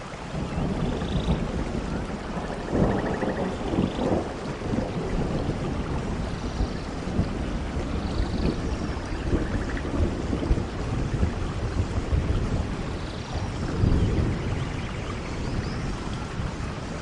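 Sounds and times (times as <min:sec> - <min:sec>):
low rumble of thunder: 0:00.0 - 0:17.0
steady rain: 0:00.0 - 0:17.0.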